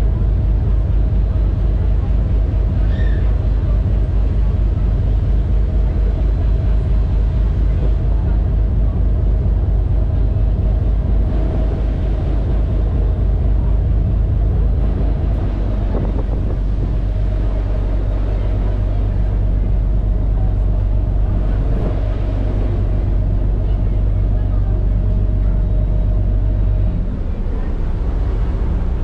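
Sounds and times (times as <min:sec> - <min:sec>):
churning wake water: 0:00.0 - 0:29.0
ferry engines droning: 0:00.0 - 0:29.0.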